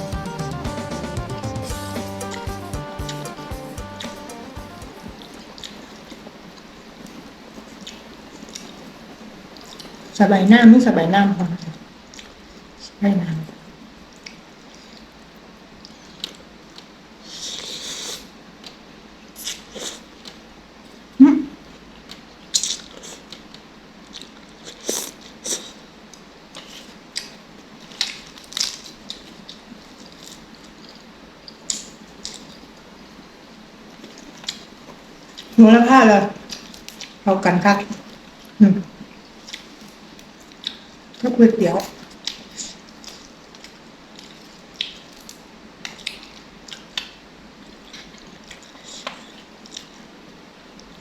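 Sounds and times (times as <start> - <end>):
person chewing food: 0.0 - 10.1, 14.1 - 21.0, 21.6 - 35.6, 36.4 - 37.2, 38.0 - 41.2, 41.8 - 51.0.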